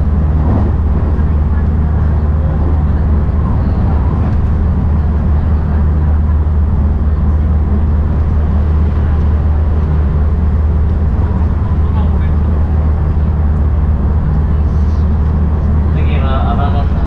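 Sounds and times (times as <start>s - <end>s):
train rumbling at speed: 0.0s - 17.0s.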